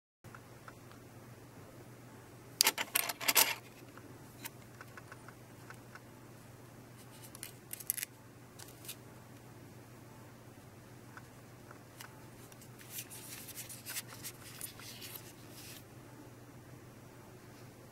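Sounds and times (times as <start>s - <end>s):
faint low hum: 0.3s - 17.9s.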